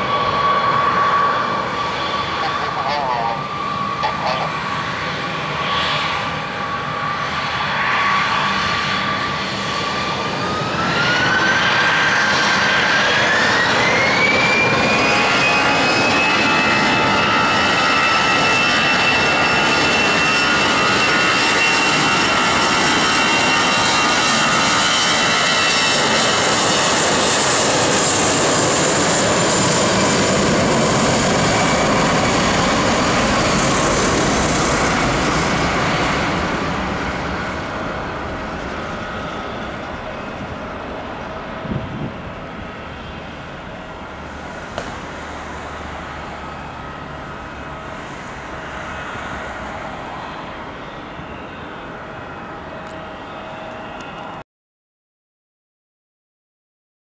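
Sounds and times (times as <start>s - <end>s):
jet engines spooling up: 0.0s - 54.4s.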